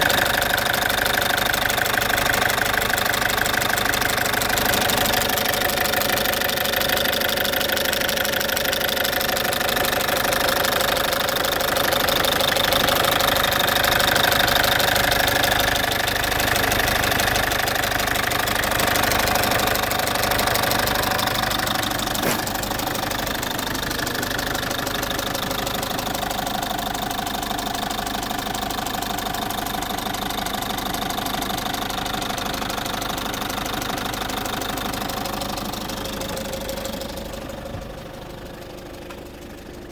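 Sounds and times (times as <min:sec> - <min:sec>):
diesel engine idling: 0:00.0 - 0:39.9
rhythmic engine ticking: 0:00.0 - 0:39.9.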